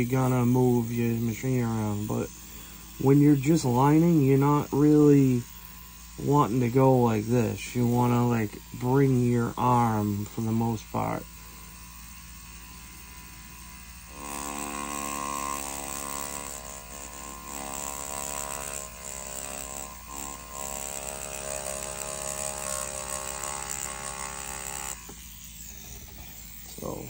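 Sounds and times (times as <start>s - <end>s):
tattoo machine motor buzz: 0.0s - 27.0s.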